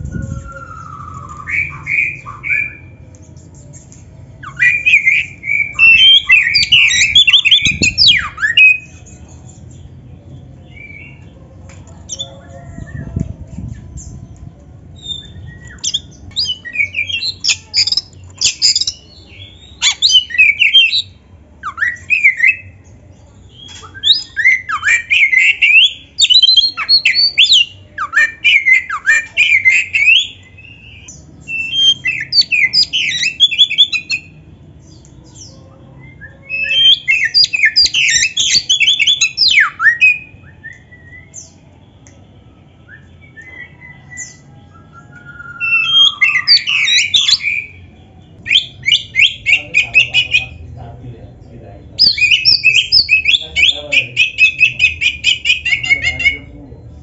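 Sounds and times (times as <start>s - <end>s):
bird singing whistles and chatter: 0.0s - 3.0s, 3.8s - 9.8s, 15.0s - 22.8s, 23.5s - 50.8s, 52.0s - 56.8s.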